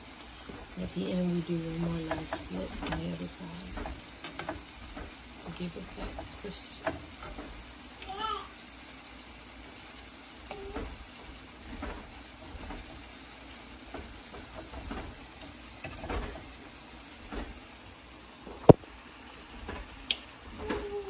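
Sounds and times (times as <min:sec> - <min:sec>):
chicken sizzling in a skillet: 0:00.0 - 0:21.0.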